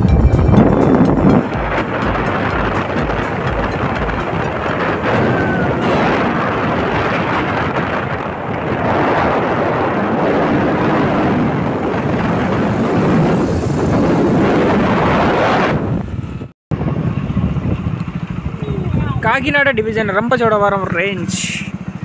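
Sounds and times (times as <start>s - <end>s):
motorcycle running: 0.0s - 22.0s
wind buffeting microphone: 0.0s - 22.0s.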